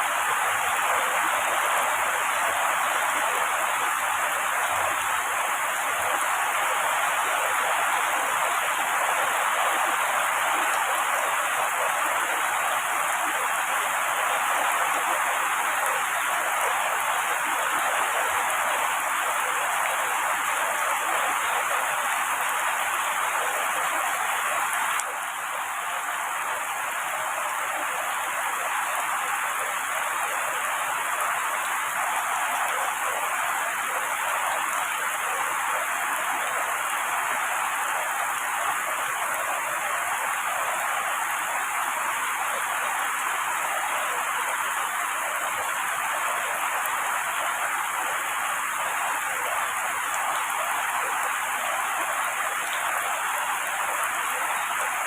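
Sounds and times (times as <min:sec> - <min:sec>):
heavy rain on foliage: 0:00.0 - 0:55.0.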